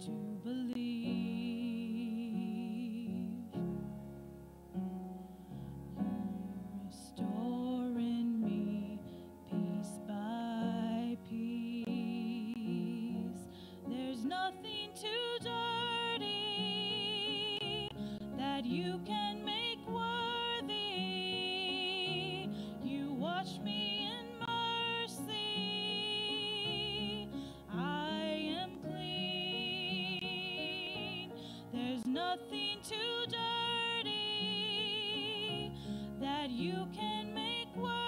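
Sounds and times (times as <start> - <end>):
woman singing into a microphone: 0.0 - 3.6, 6.4 - 38.0.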